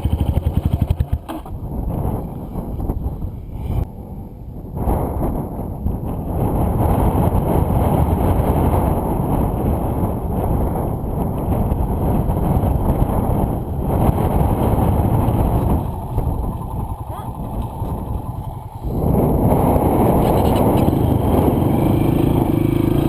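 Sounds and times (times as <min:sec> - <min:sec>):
dirt bike engine running: 0:00.0 - 0:03.8, 0:04.8 - 0:23.0
wind rushing on microphone: 0:00.0 - 0:23.0.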